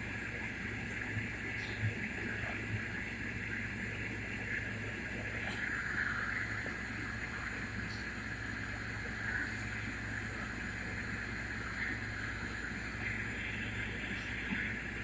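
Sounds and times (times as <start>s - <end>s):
constant hiss: 0.0s - 15.0s
machinery hum: 0.0s - 15.0s.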